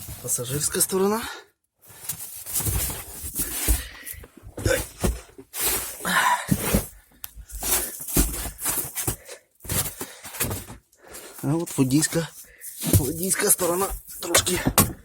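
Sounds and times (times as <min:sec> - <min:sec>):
rustling and scraping of handling: 0:00.0 - 0:01.0, 0:01.8 - 0:15.0.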